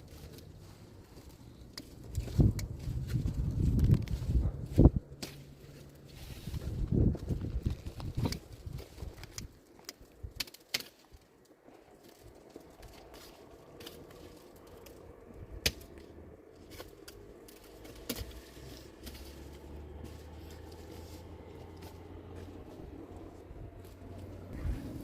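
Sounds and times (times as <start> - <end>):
low rumble: 0.0 - 9.5, 12.2 - 25.0
wood fire crackling: 0.0 - 25.0.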